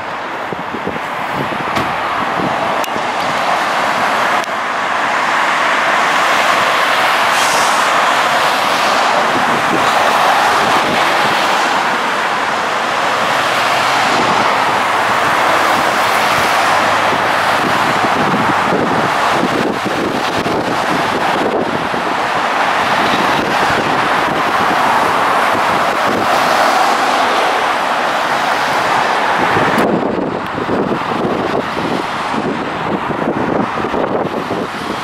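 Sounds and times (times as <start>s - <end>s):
city bus pulling away: 0.0s - 35.0s
road traffic noise: 0.0s - 35.0s.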